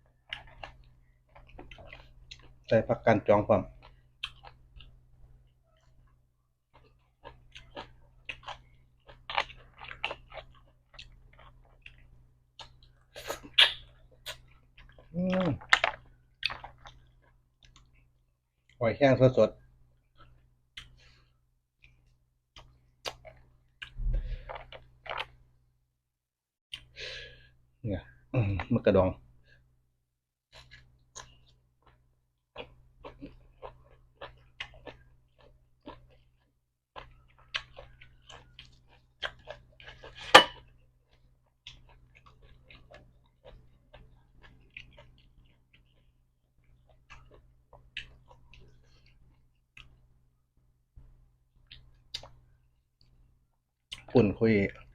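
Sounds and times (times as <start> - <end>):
chewing and clicks while eating: 0.0 - 2.8, 3.7 - 18.8, 20.1 - 21.0, 21.8 - 25.4, 30.5 - 50.1, 51.0 - 53.2, 53.9 - 54.9.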